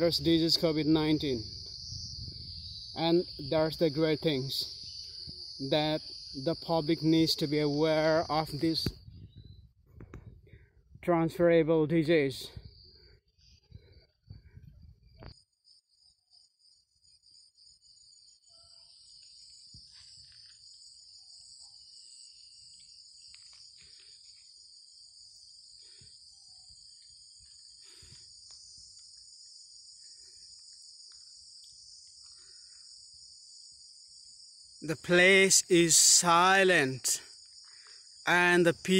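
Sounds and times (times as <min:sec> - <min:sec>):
forest insects droning: 0:00.0 - 0:38.9.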